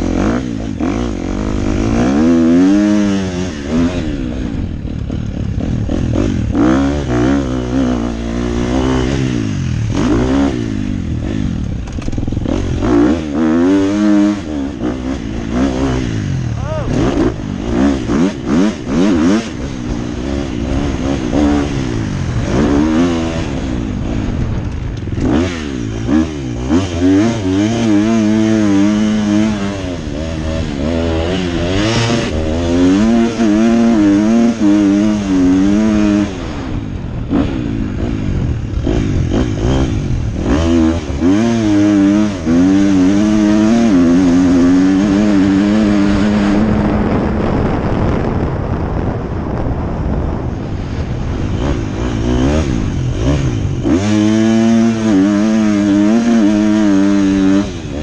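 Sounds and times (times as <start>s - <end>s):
motocross bike engine revving: 0.0s - 48.7s, 49.3s - 58.0s.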